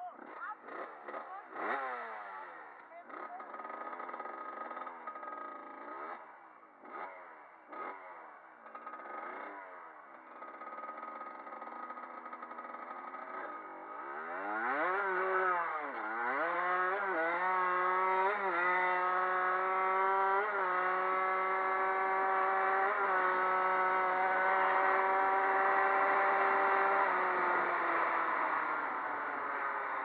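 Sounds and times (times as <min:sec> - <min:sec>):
dirt bike engine revving: 0:00.2 - 0:30.0.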